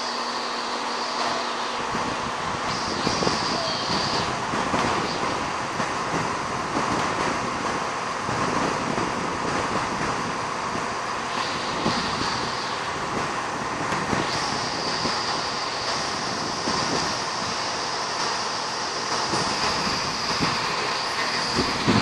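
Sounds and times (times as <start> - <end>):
high steady whine: 0.0 - 22.0.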